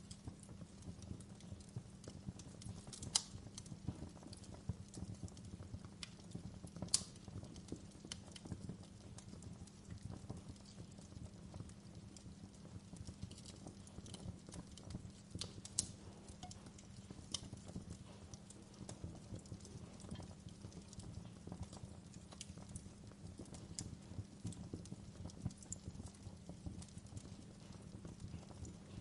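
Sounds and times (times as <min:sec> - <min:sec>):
log fire crackling and popping: 0:00.0 - 0:29.0
low rumble of flame: 0:00.0 - 0:29.0.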